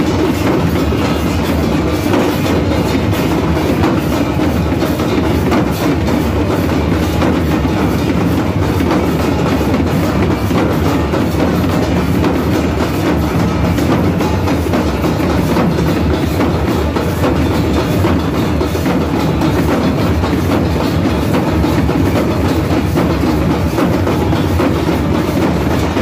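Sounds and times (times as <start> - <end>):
barrel drums beaten with sticks: 0.0 - 26.0.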